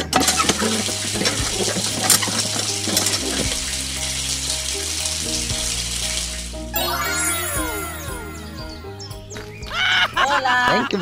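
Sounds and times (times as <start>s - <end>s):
water pouring into pool: 0.0s - 8.9s.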